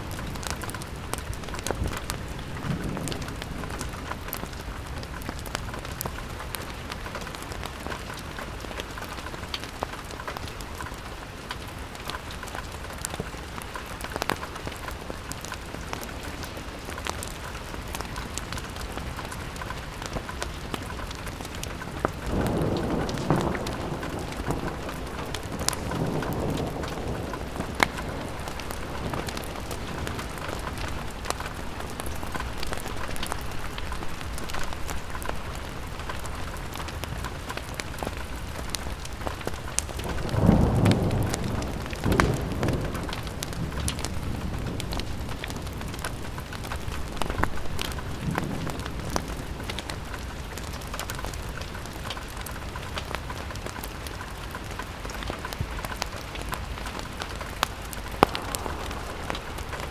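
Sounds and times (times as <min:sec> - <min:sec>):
low thunder rumbles: 0:00.0 - 0:11.2, 0:11.8 - 0:59.9
rain on a window: 0:00.0 - 0:59.9.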